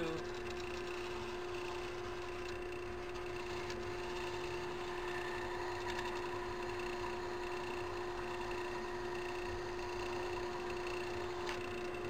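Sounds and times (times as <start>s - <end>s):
lathe humming: 0.0s - 12.0s.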